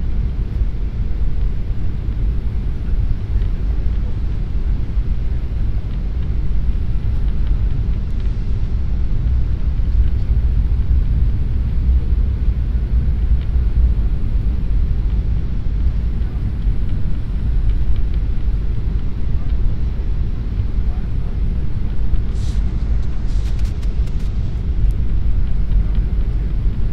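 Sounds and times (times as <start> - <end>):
airliner engines rumbling in cabin: 0.0 - 26.9.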